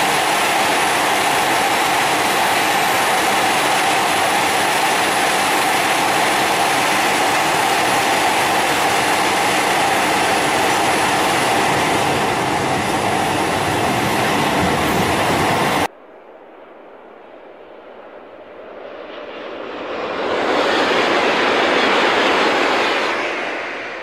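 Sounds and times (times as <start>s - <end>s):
high-speed train passing: 0.0s - 24.0s.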